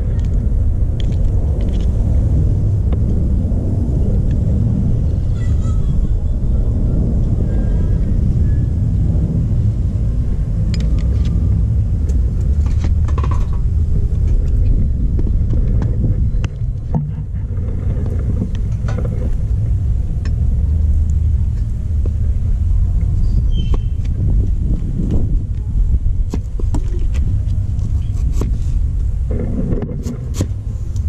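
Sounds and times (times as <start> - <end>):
wind on microphone: 0.0 - 31.0.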